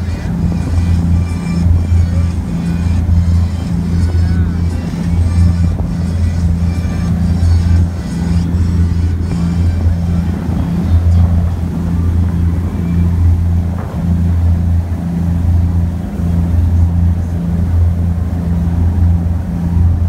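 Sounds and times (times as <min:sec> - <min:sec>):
boat engines droning: 0:00.0 - 0:20.0
rushing water: 0:00.0 - 0:20.0
wind: 0:00.0 - 0:20.0.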